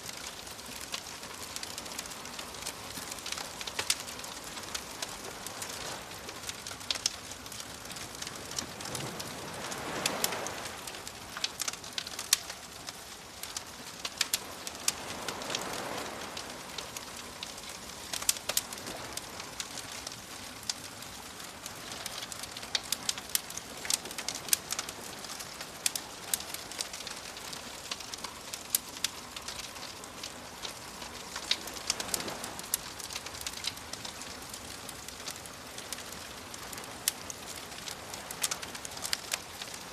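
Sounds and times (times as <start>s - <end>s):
soft steady hiss: 0.0s - 39.9s
wood fire crackling and popping: 0.0s - 39.9s
waves washing in: 0.3s - 39.9s.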